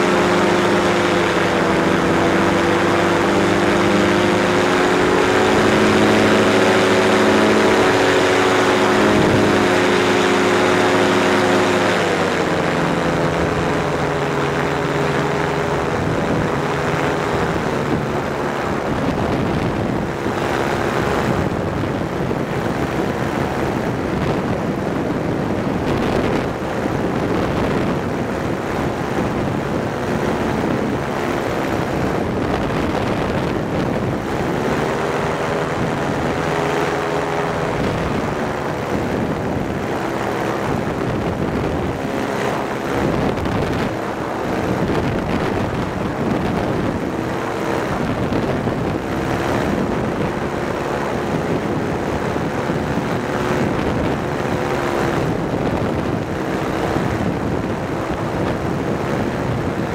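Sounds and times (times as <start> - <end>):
propeller engine running: 0.0 - 59.9
wind noise on microphone: 0.0 - 59.9.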